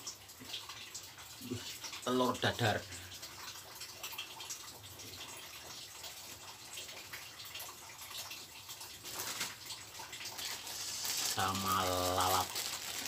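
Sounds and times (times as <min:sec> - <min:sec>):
light rain hiss: 0:00.0 - 0:13.0
small water drips: 0:00.0 - 0:13.0.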